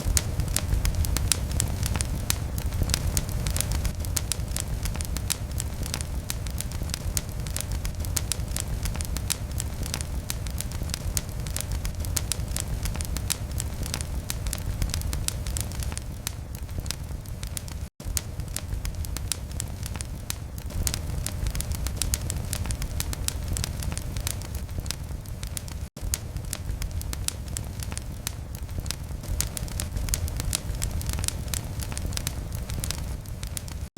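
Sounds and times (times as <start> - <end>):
fire low rumble: 0.0 - 33.9
wood fire crackling and popping: 0.0 - 33.9.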